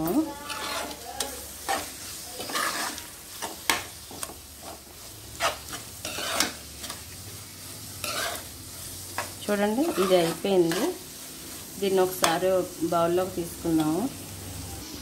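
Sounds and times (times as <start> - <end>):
spatula scraping frying pan: 0.0 - 14.2
light sizzle of frying: 0.0 - 15.0.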